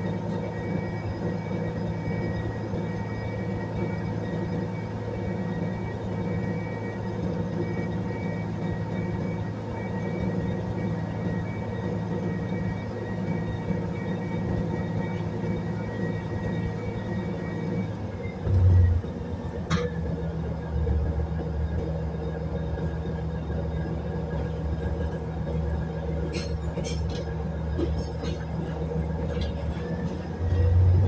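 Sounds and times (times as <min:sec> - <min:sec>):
railbus engine running: 0:00.0 - 0:31.0.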